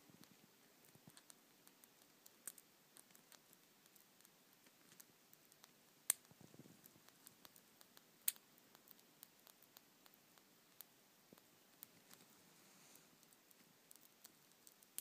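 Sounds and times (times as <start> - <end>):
bat chewing with wet clicks: 0.2 - 12.3, 13.1 - 15.0.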